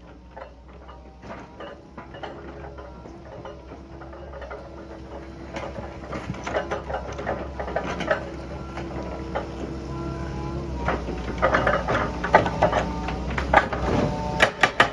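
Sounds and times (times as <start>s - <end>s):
excavator engine hum: 0.0s - 14.9s.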